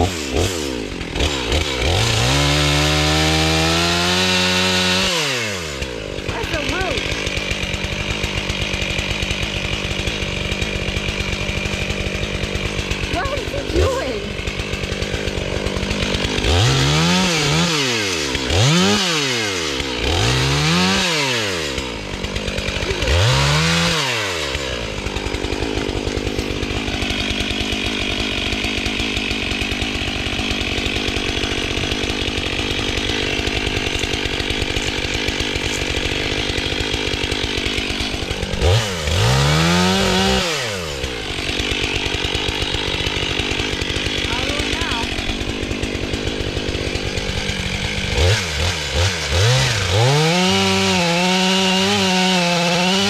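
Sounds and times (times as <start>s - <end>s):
chainsaw engine revving and idling: 0.0s - 53.0s.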